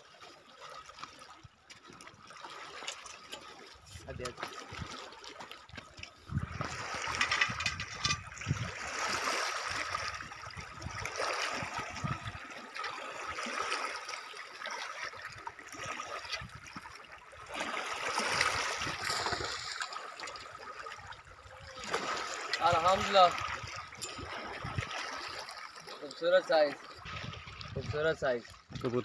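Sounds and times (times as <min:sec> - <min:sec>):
water splashing on stony shore: 0:00.0 - 0:29.0.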